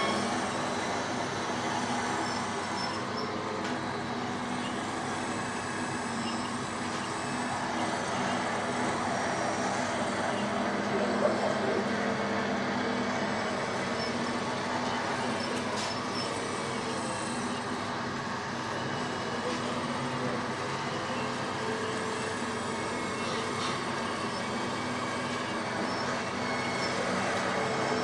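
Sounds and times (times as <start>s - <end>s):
model excavator motors humming: 0.0s - 28.0s.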